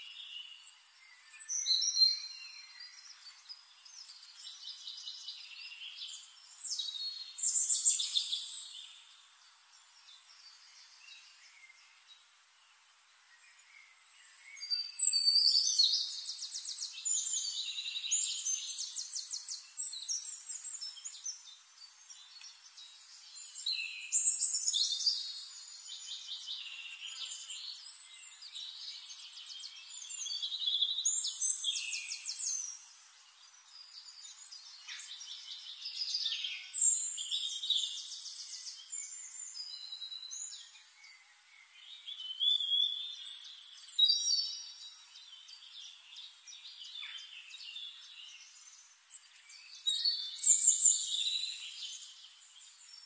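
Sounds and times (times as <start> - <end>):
small birds singing: 0.0 - 53.0.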